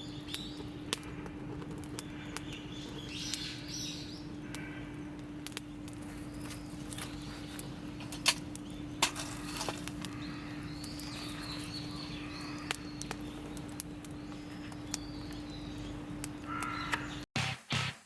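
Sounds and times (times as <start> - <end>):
campfire crackling and popping: 0.0 - 17.2.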